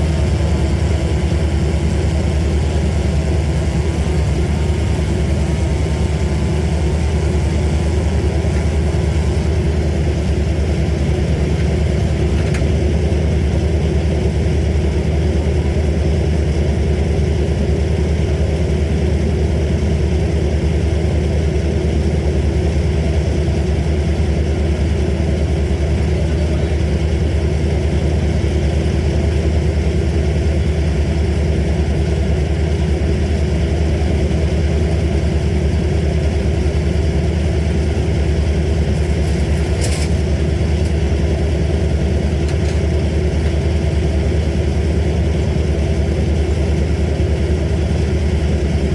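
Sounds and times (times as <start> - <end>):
heavy equipment engine running: 0.0 - 48.9.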